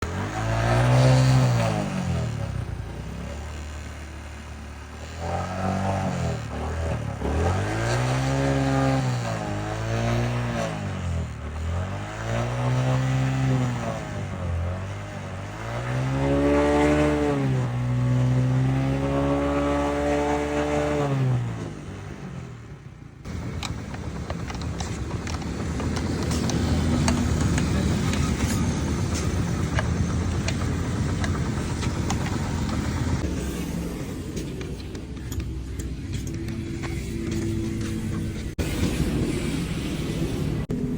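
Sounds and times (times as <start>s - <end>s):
engine running roughly with ticking: 0.0s - 40.9s
motorcycle engine revving: 0.0s - 40.9s.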